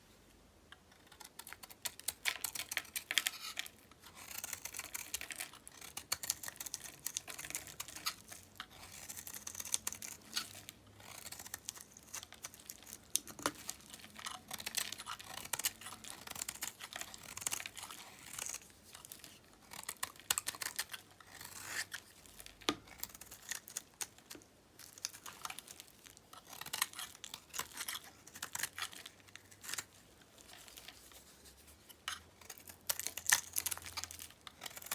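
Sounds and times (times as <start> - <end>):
knife cutting crackling soap: 0.8 - 34.9.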